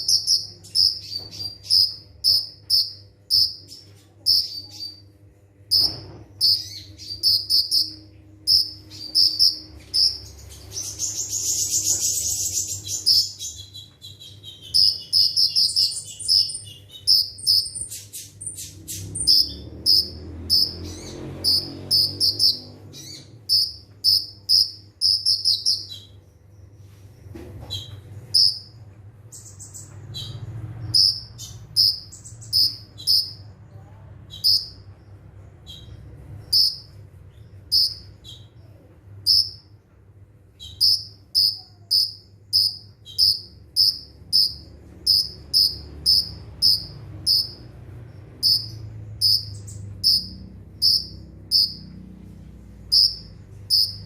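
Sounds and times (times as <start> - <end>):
sunbird high chirps: 0.0 - 5.1, 5.7 - 39.8, 40.5 - 54.0
faint low hum: 0.0 - 54.0.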